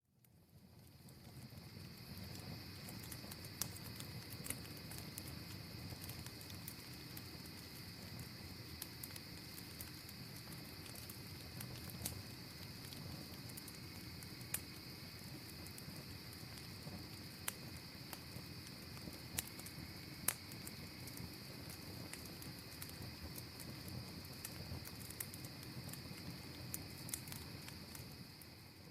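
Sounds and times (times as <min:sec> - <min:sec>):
sharp crackles and clicks: 0:00.2 - 0:28.2
insect chorus: 0:00.5 - 0:28.9.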